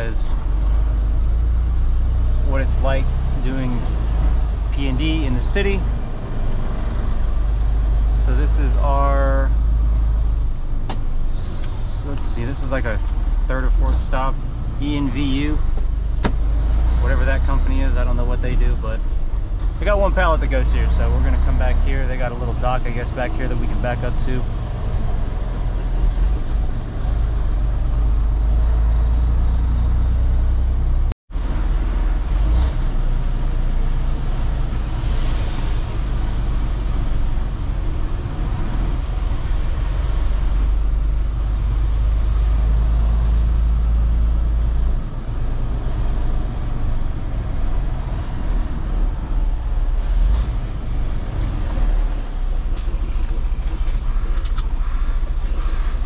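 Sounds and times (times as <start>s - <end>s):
diesel truck engine rumble: 0.0s - 56.0s.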